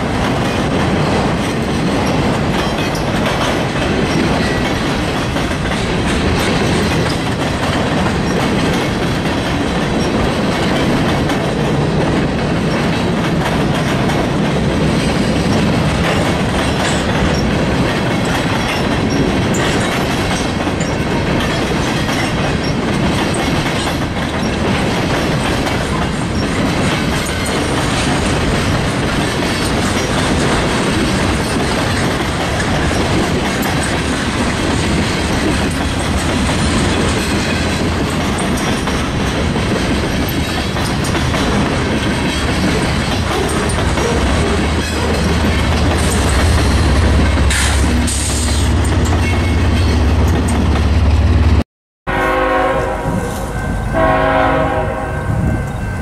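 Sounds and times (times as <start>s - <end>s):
wheels clacking over rail joints: 0.0s - 51.2s
freight train rumbling past: 0.0s - 56.0s.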